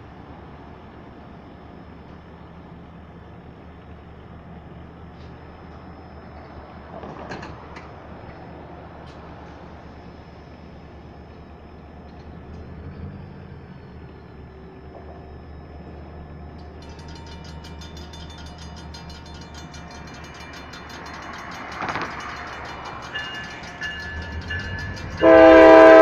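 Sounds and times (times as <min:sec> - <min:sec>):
diesel train rumbling: 0:00.0 - 0:26.0
crossing bells ringing: 0:04.4 - 0:26.0.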